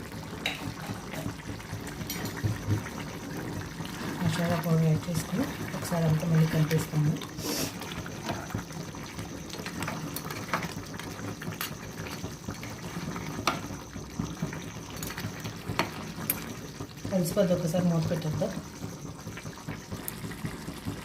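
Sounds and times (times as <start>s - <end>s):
gravy simmering hiss: 0.0s - 21.0s.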